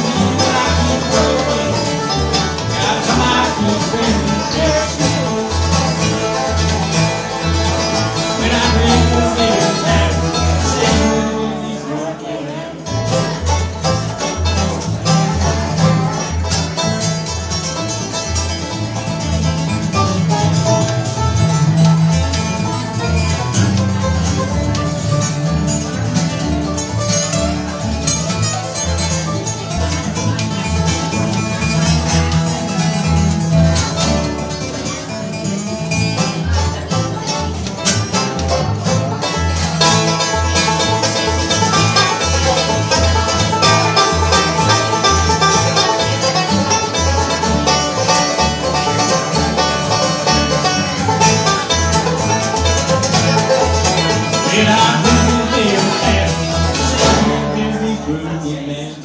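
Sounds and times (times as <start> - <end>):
picked banjo: 0.0 - 59.0
strummed acoustic guitar: 0.0 - 59.0
upright bass: 0.0 - 59.0.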